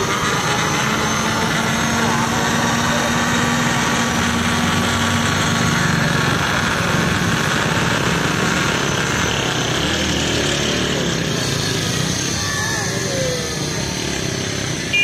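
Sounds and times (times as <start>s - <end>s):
blender motor running: 0.0s - 15.0s.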